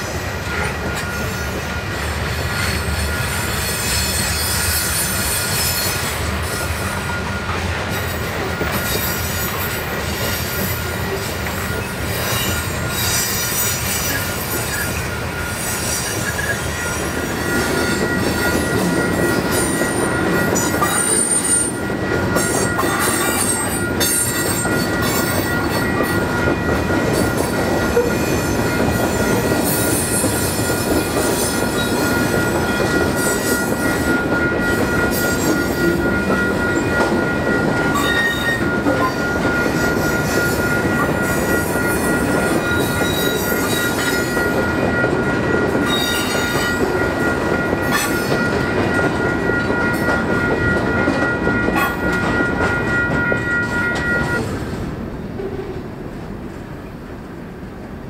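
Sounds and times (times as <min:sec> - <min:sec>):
high-pitched wheel squeal: 0:02.4 - 0:07.2, 0:08.0 - 0:54.5.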